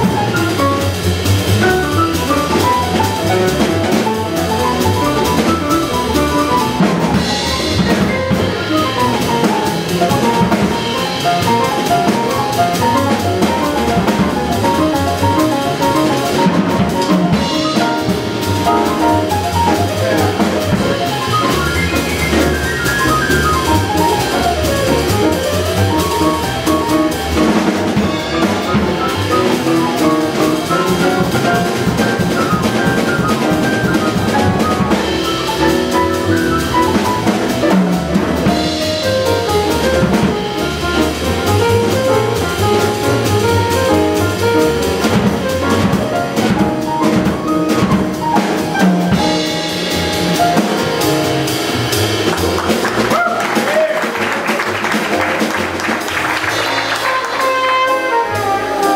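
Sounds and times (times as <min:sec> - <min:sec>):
piano runs: 0:00.0 - 0:53.1
drum kit with cymbals: 0:00.0 - 0:58.9
walking upright bass: 0:00.0 - 0:58.9.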